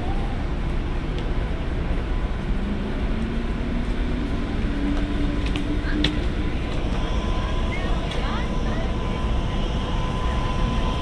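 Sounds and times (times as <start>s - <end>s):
train wheels rumbling on rail: 0.6s - 11.0s
faint rising whine: 1.4s - 11.0s.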